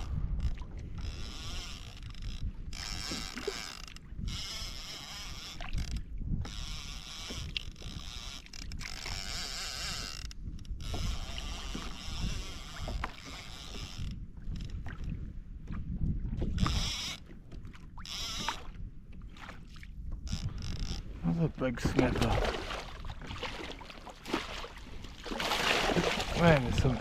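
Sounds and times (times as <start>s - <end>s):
water sloshing and splashing: 0.0s - 27.0s
wind buffeting microphone: 0.0s - 27.0s.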